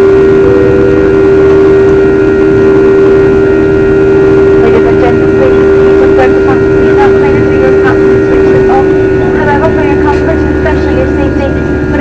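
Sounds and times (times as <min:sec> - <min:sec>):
jet airliner cabin drone: 0:00.0 - 0:12.0.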